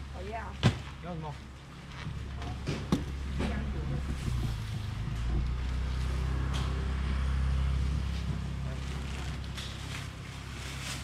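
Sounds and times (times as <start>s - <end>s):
low engine hum: 1.5s - 11.0s.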